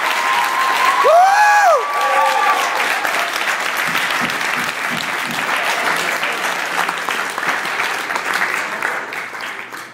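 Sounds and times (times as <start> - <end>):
students applauding: 0.0 - 9.9.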